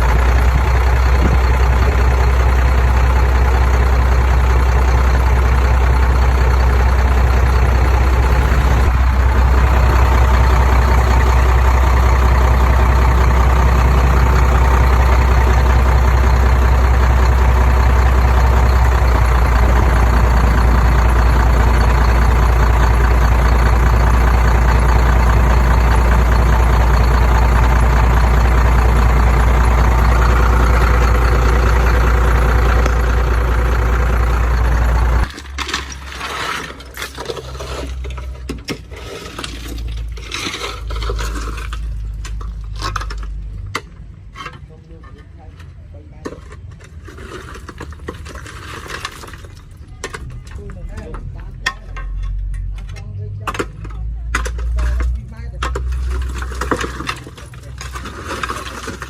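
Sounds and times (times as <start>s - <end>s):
heavy machine engine running: 0.0s - 38.5s, 49.7s - 59.0s.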